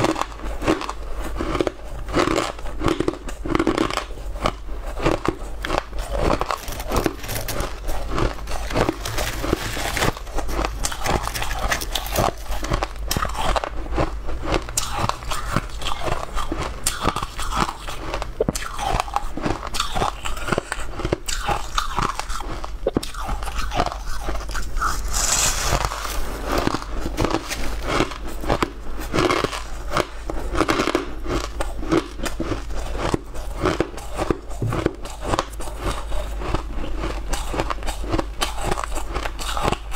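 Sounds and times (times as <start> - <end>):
crunchy food chewing: 0.0 - 39.9.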